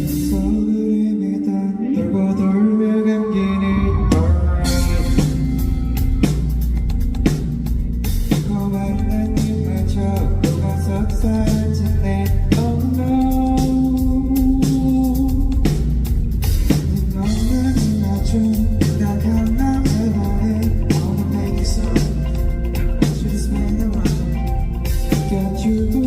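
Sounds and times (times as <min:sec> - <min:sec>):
person singing: 0:00.0 - 0:05.8, 0:08.3 - 0:15.8, 0:16.8 - 0:26.0
bass and guitar: 0:00.0 - 0:26.0
drum beat: 0:04.1 - 0:26.0.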